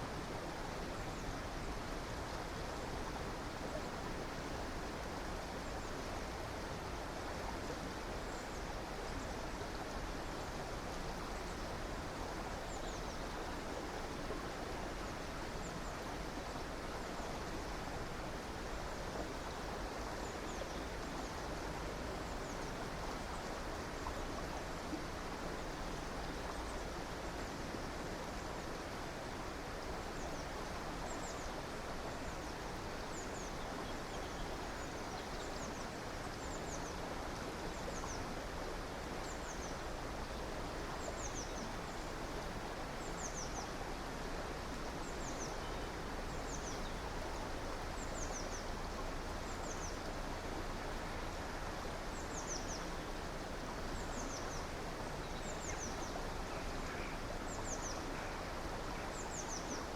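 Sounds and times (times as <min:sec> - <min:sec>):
stream flowing: 0:00.0 - 0:59.9.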